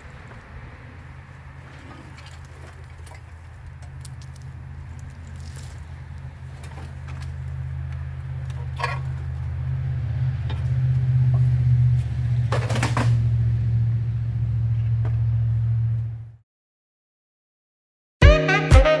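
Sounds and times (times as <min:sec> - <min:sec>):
low machine hum: 0:00.0 - 0:16.4.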